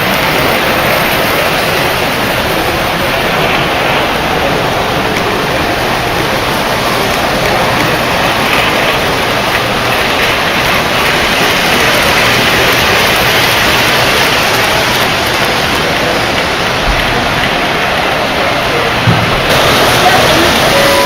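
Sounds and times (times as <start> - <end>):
model train wheels rumbling on track: 0.0 - 21.0.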